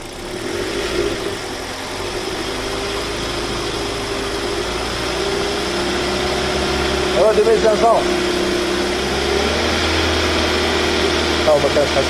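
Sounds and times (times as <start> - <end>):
car engine at raised revs: 0.0 - 12.0.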